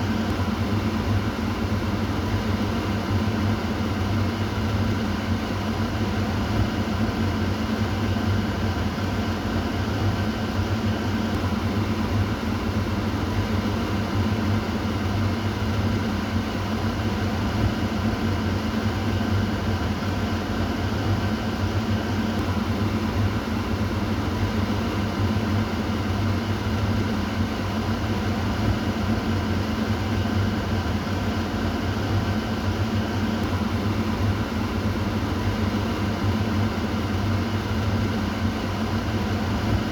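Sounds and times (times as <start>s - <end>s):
kitchen exhaust fan running: 0.0s - 39.9s.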